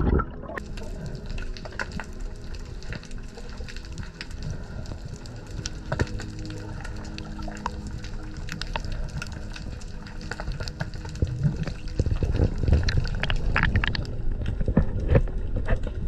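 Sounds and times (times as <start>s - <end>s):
water sloshing and bubbling: 0.0s - 16.0s.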